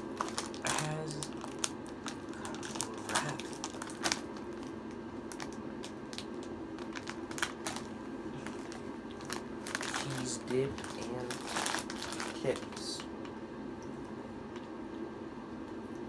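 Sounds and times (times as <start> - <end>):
plastic snack bag crinkling: 0.0 - 13.1
crackers being chewed: 0.1 - 13.3.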